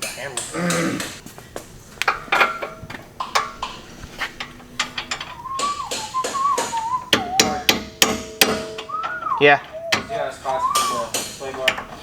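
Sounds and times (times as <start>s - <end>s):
hand tools clinking on steel: 0.0s - 12.0s.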